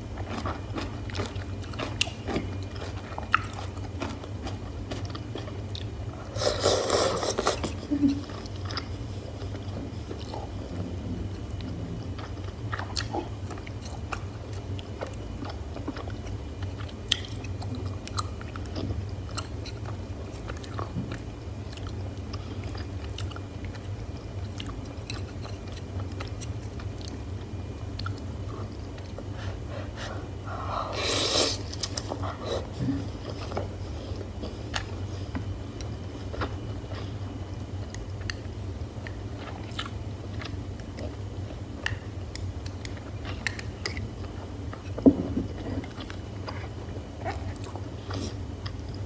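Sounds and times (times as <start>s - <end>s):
chewing and biting food: 0.0s - 49.0s
steady low hum: 0.0s - 49.0s.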